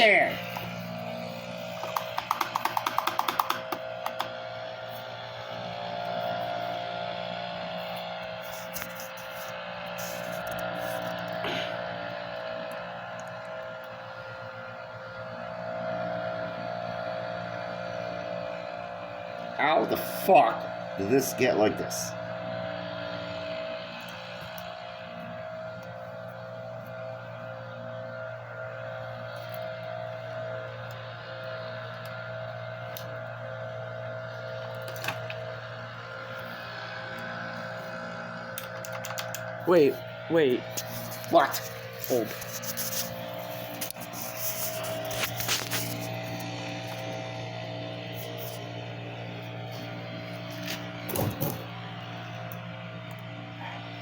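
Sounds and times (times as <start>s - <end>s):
motor humming: 0.0s - 54.0s.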